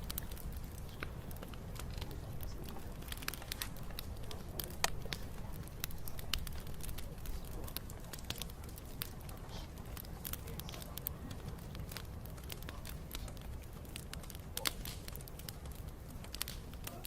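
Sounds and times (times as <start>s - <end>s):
bonfire crackling and popping: 0.0s - 17.0s
low fire rumble: 0.0s - 17.0s.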